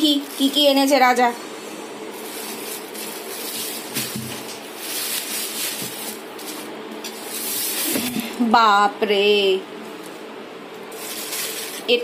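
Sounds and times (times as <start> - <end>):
cloth and plastic bags rustling: 0.0 - 1.3, 1.9 - 8.4, 9.8 - 12.0.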